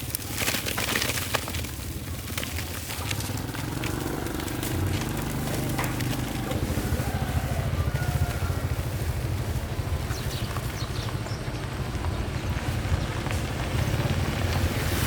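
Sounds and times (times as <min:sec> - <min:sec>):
small motorbike engine running: 0:00.0 - 0:15.0.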